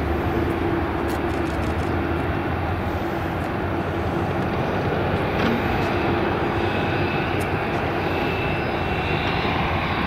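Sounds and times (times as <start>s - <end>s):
jet engines droning: 0.0s - 10.0s.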